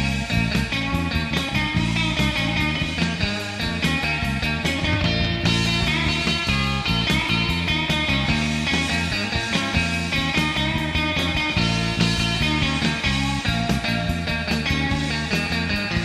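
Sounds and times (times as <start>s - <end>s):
instrumental surf rock: 0.0s - 16.0s.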